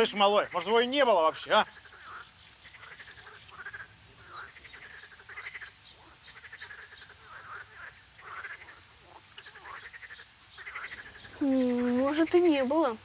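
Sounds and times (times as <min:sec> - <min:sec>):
faint outdoor hiss: 0:00.0 - 0:13.0
frogs croaking: 0:00.0 - 0:13.0.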